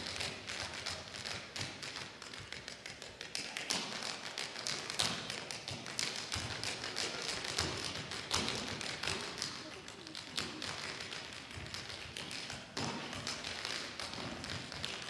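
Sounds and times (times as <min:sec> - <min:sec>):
tap shoes striking stage floor: 0:00.0 - 0:15.0.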